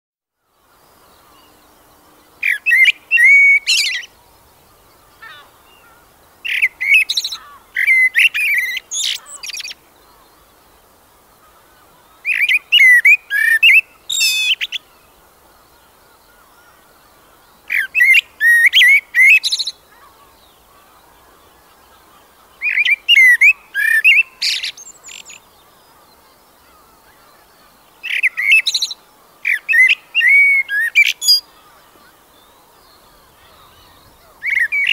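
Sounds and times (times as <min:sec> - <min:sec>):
bird chirping: 0:00.6 - 0:10.8, 0:11.4 - 0:34.9.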